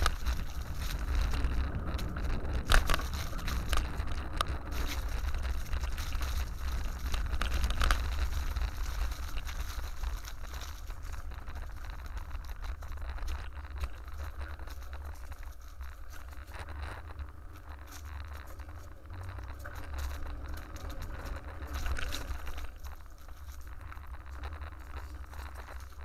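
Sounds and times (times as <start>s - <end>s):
bicycle rolling over leaves: 0.0s - 26.0s
leaves crackling: 0.0s - 26.0s
wind rumble on microphone: 0.0s - 26.0s.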